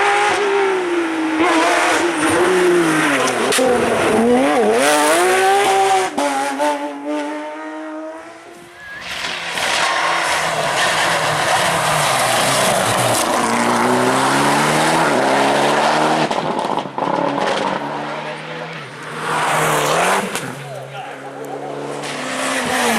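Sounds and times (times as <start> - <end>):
rally cars passing at speed: 0.0 - 22.9
car engine changing gears: 1.3 - 22.9.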